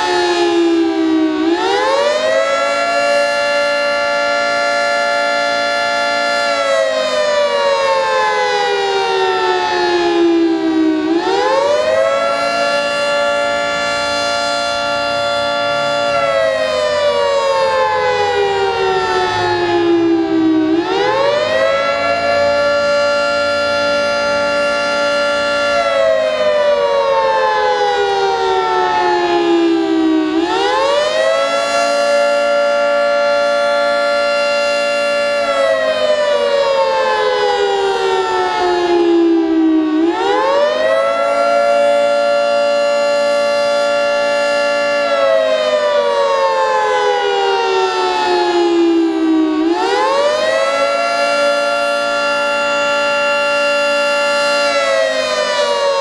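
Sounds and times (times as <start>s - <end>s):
outdoor warning siren wailing: 0.0s - 56.0s.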